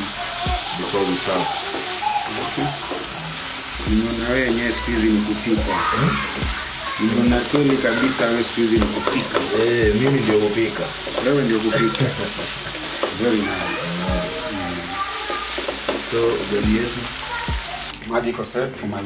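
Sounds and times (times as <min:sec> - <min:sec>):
meat sizzling in a pan: 0:00.0 - 0:18.7.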